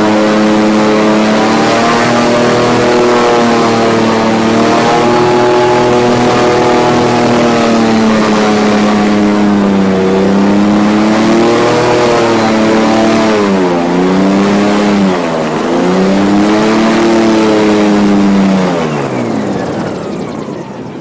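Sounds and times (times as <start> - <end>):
airboat engine and propeller: 0.0 - 21.0.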